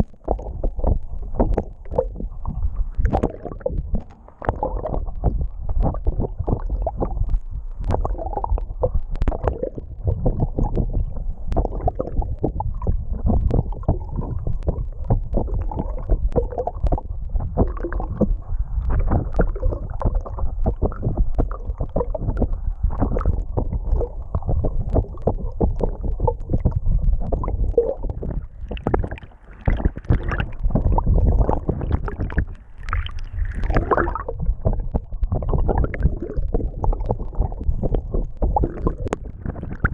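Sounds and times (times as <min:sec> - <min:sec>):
muffled underwater water churning: 0:00.0 - 0:39.9.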